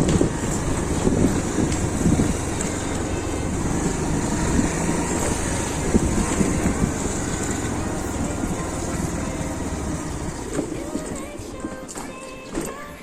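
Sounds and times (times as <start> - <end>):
wind on microphone: 0.0 - 11.3
scooter engine running: 0.0 - 13.0.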